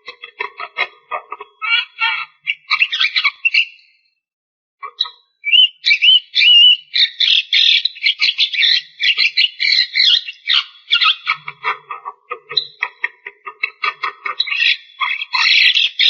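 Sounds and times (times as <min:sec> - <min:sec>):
myna chattering and whistling: 0:00.0 - 0:04.0, 0:04.8 - 0:16.0.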